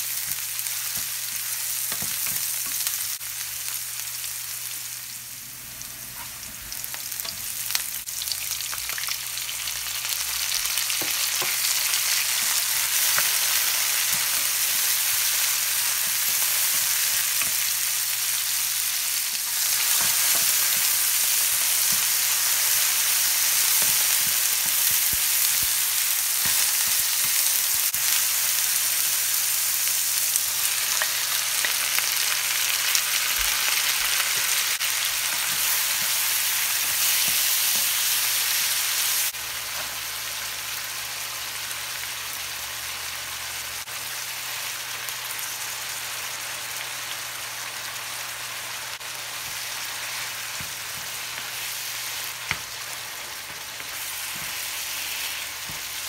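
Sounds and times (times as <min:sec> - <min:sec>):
oil sizzling in frying pan: 0:00.0 - 0:56.0.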